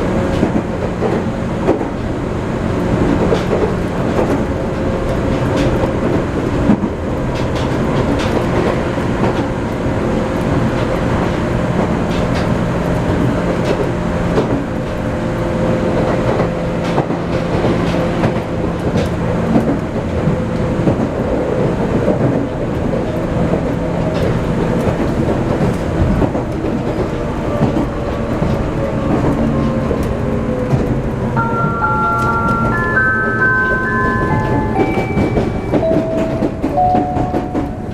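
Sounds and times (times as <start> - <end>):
train rumble inside car: 0.0 - 37.9
wheels clacking over rail joints: 0.2 - 37.9.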